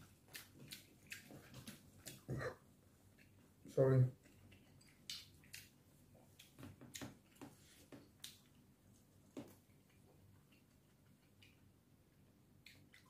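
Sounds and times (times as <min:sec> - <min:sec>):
soft chewing clicks and smacks: 0:00.0 - 0:13.0.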